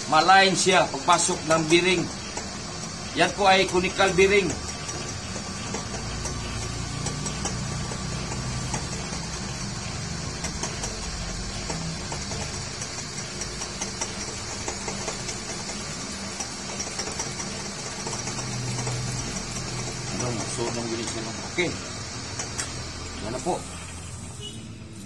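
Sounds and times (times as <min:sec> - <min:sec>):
metal lathe cutting: 0:00.0 - 0:25.0.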